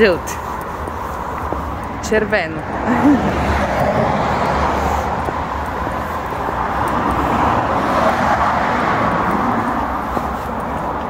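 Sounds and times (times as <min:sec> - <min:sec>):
passing cars hiss and rumble: 0:00.0 - 0:11.0.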